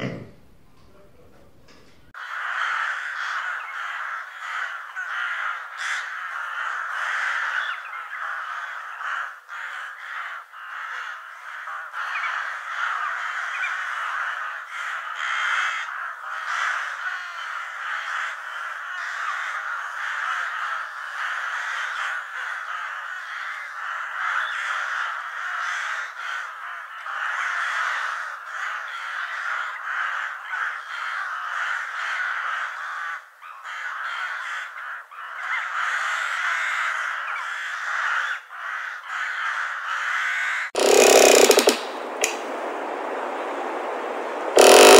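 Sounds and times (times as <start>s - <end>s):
crows cawing: 1.7s - 42.4s, 44.6s - 44.9s.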